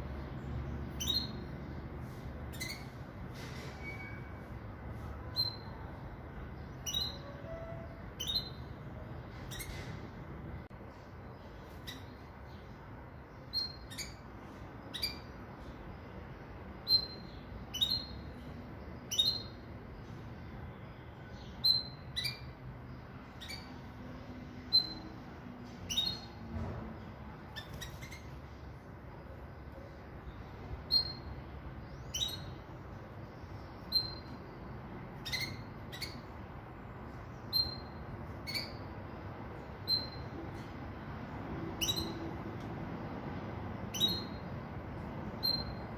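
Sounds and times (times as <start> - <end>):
steady low background hum: 0.0 - 45.9.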